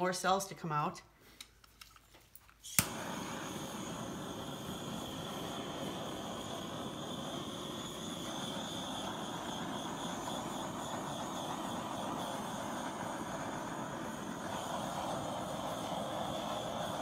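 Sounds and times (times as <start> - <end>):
butane torch hissing: 2.6 - 17.0.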